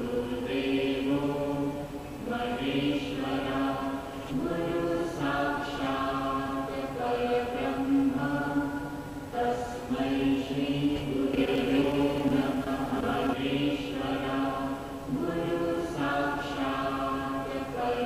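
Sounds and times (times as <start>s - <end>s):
voices chanting: 0.0s - 18.0s.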